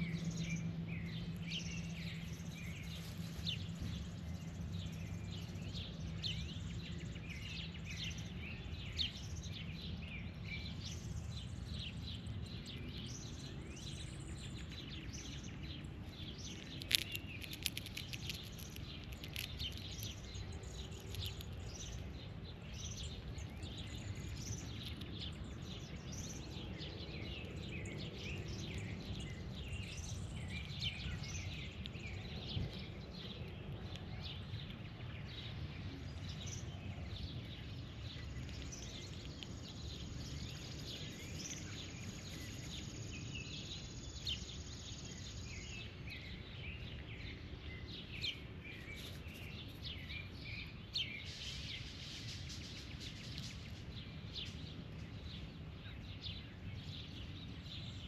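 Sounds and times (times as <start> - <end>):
birds chirping: 0.0 - 58.0
low background rumble: 0.0 - 58.0.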